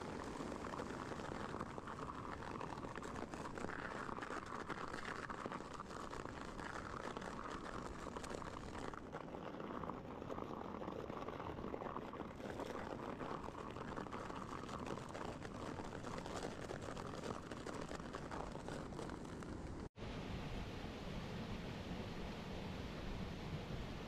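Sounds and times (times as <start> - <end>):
bike tyres rolling over snow: 0.0 - 19.9.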